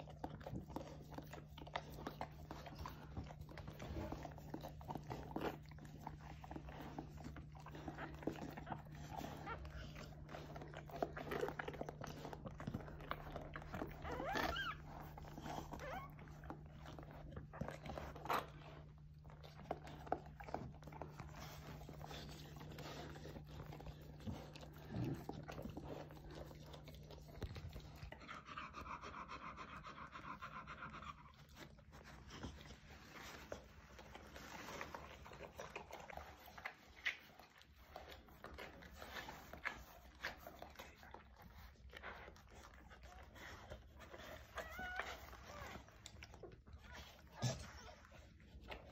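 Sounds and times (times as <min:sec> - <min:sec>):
dog panting heavily: 0:00.0 - 0:48.9
wet licking and smacking: 0:00.0 - 0:48.9.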